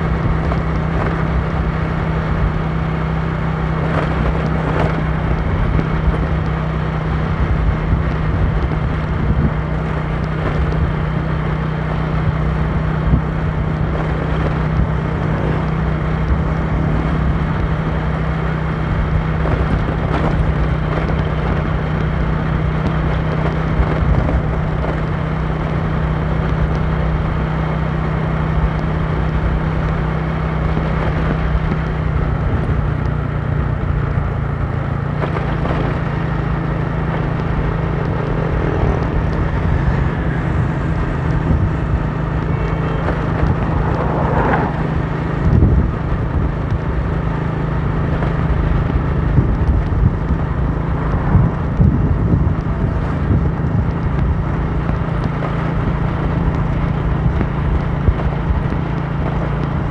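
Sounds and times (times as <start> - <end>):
motorcycle engine hum: 0.0 - 59.9
wind rushing past a moving motorcycle: 0.0 - 59.9.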